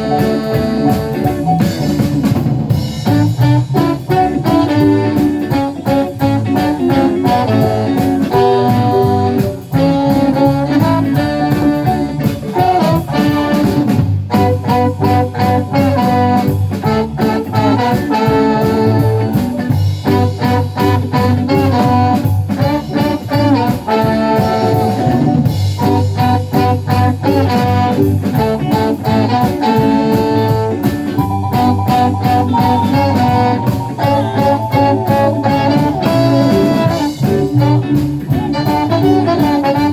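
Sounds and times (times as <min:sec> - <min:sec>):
live band playing jazz-pop: 0:00.0 - 0:39.9.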